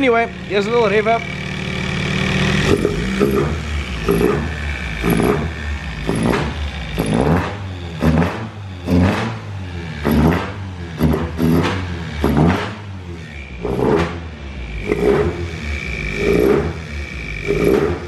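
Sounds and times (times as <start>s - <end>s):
engine revving in throttle blips: 0.0s - 18.0s.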